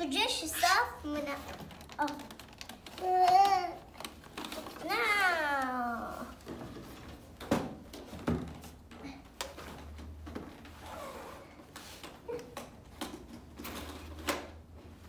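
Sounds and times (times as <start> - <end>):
plastic toys clicking and knocking: 0.0 - 10.6, 12.3 - 14.7.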